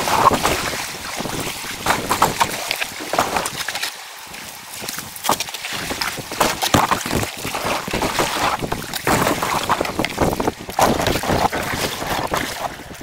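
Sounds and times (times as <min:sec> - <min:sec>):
wind buffeting microphone: 0:00.0 - 0:03.6, 0:05.8 - 0:13.0
paddle splashes: 0:00.0 - 0:13.0
water washing along hull: 0:00.0 - 0:13.0.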